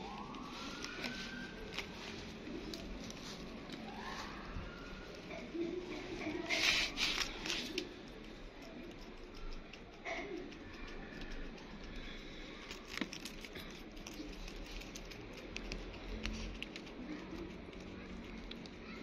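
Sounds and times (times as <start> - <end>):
light clicks and scratches: 0.0 - 19.0.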